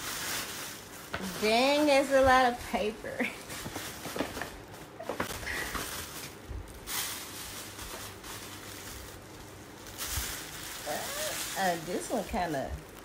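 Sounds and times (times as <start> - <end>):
tissue paper rustling: 0.0 - 13.0.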